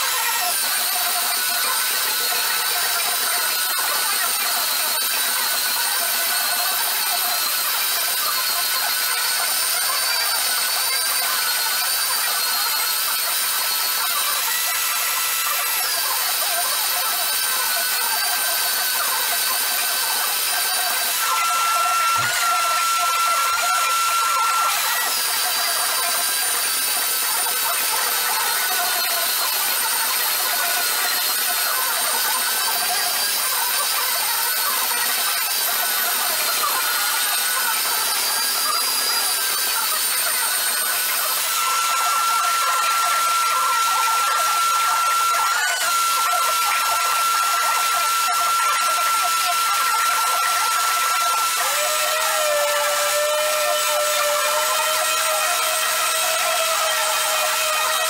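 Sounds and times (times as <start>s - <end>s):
electric sander whining: 0.0s - 58.0s.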